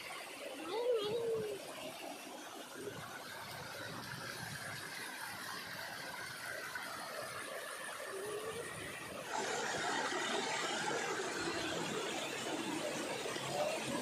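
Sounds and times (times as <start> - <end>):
stream rushing over rock: 0.0 - 14.0.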